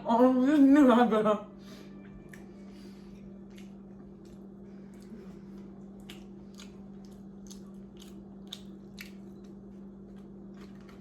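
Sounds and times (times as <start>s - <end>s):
person chewing food: 1.9s - 11.0s.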